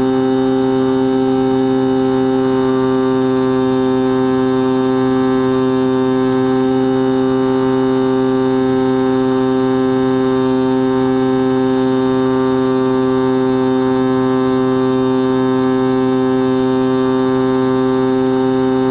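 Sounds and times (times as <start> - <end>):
electric motor and propeller buzzing: 0.0 - 18.9.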